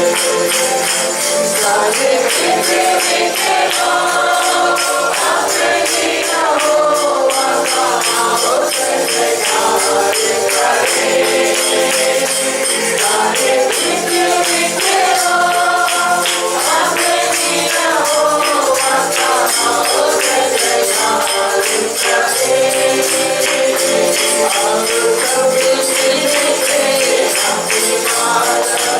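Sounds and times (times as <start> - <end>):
tambourine shaken: 0.0 - 28.9
worship music: 0.0 - 28.9.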